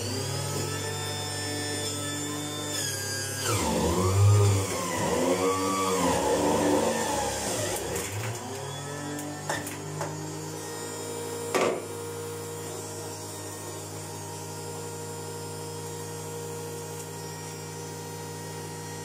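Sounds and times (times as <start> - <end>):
electric juicer motor hum: 0.0 - 19.0.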